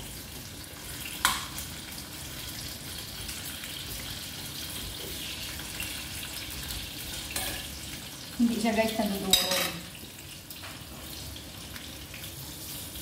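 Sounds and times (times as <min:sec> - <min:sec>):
potatoes frying in oil: 0:00.0 - 0:13.0.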